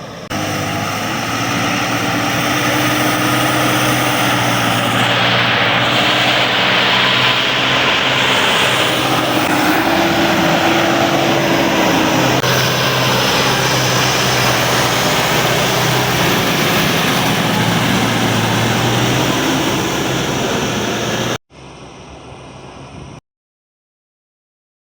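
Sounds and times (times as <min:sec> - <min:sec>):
tractor engine running under load: 0:00.0 - 0:21.4.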